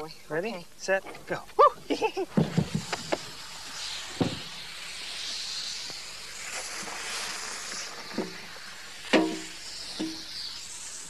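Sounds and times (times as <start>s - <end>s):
hot rock hissing in water: 1.8s - 11.0s.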